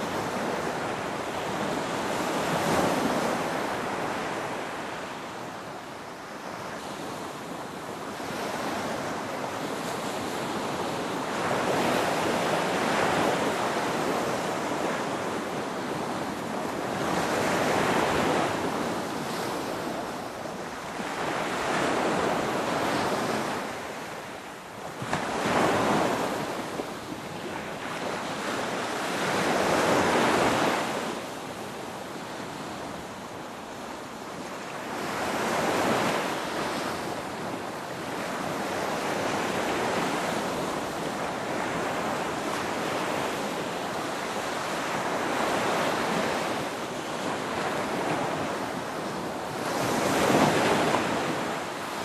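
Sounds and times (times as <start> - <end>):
ocean waves breaking on shore: 0.0 - 52.0.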